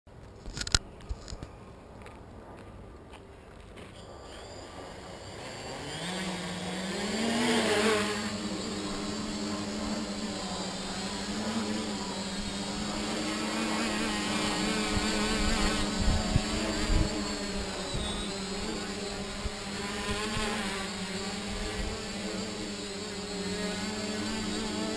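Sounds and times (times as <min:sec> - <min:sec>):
quadcopter motors whining: 0:03.8 - 0:24.9.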